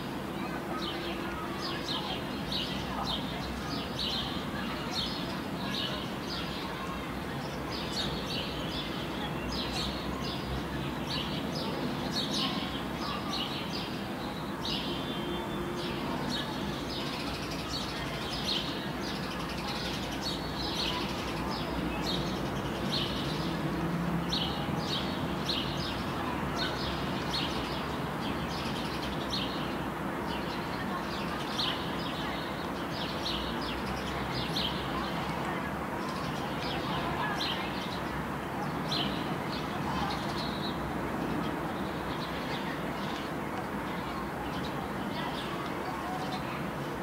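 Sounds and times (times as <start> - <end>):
outdoor background noise: 0.0 - 47.0.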